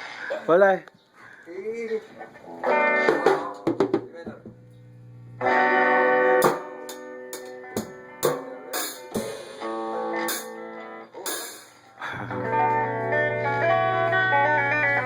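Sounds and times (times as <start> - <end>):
guitar playing: 2.3 - 15.0.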